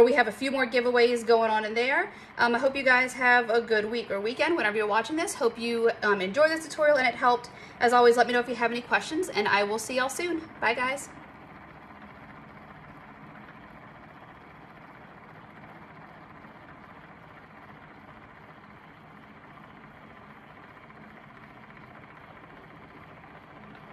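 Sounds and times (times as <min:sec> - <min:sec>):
small motor humming: 0:00.0 - 0:23.9.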